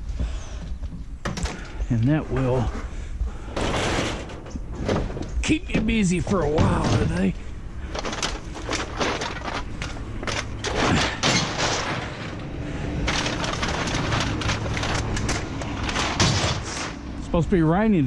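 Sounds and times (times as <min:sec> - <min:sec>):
low steady hum: 0:00.0 - 0:18.0
irregular knocks and clatters: 0:00.2 - 0:17.0.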